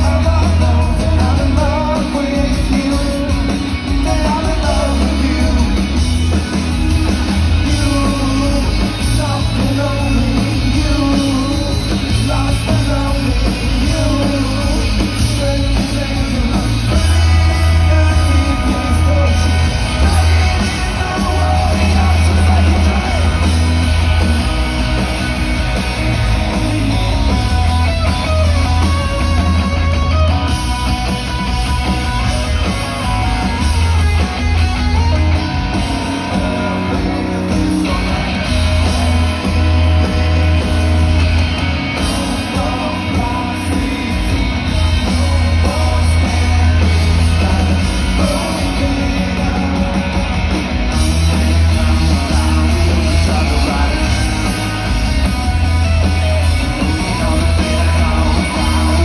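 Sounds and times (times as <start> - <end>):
lead vocalist singing: 0.0 - 27.6, 35.6 - 59.0
live rock band playing: 0.0 - 59.0.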